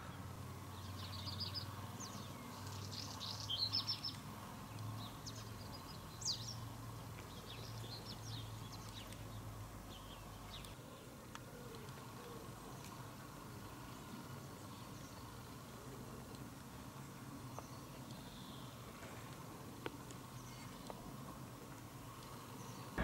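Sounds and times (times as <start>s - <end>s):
small songbirds chirping: 0.0s - 23.0s.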